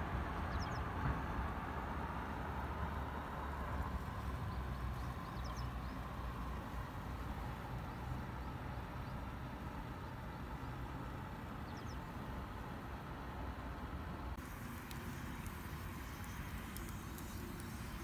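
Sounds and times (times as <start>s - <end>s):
low outdoor background rumble: 0.0s - 18.0s.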